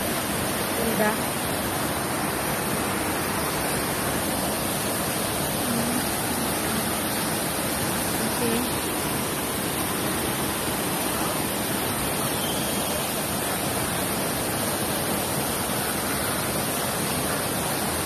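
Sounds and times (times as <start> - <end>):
waterfall splashing into pool: 0.0 - 18.0.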